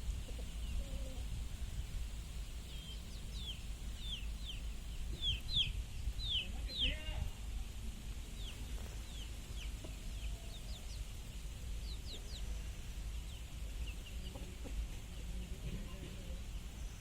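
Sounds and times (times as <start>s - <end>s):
chickens calling: 0.0s - 7.3s, 8.2s - 17.0s
steady low rumble: 0.0s - 17.0s.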